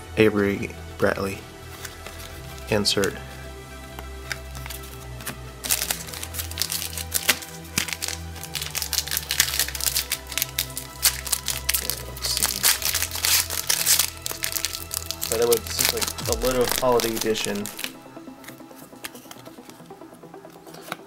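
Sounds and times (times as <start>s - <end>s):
background music: 0.0s - 21.0s
foil wrapper crinkling: 1.7s - 20.9s.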